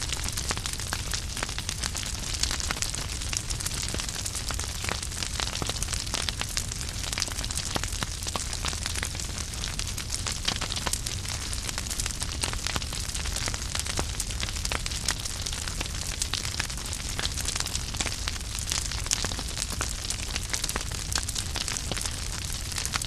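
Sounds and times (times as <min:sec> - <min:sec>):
firewood crackling and popping: 0:00.0 - 0:23.0
rumble and hiss of flames: 0:00.0 - 0:23.0.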